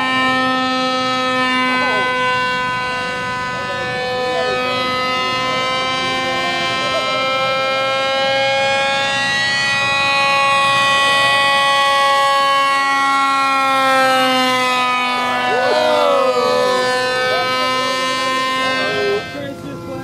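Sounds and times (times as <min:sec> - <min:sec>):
model aircraft motors humming: 0:00.0 - 0:20.0.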